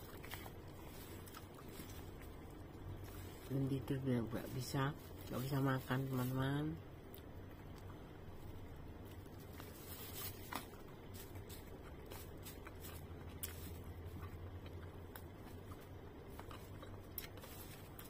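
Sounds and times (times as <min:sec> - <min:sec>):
chewing: 0:00.0 - 0:05.3, 0:07.1 - 0:18.0
faint low hum: 0:00.0 - 0:18.0.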